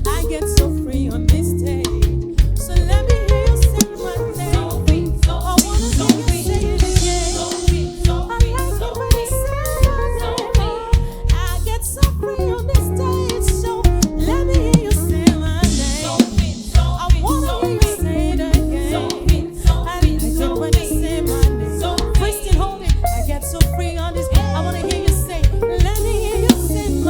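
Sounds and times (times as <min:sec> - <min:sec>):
live band music: 0:00.0 - 0:27.0
drum hits: 0:00.6 - 0:12.3, 0:13.4 - 0:26.9.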